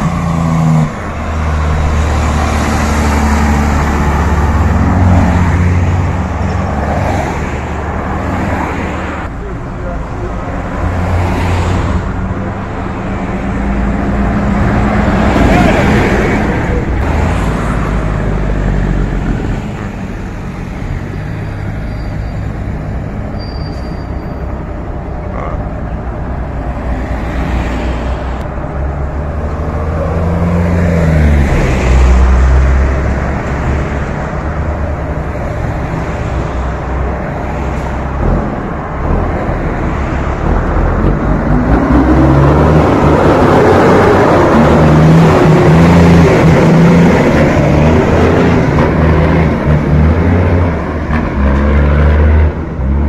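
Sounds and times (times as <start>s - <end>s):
trucks and cars passing: 0.0s - 53.0s.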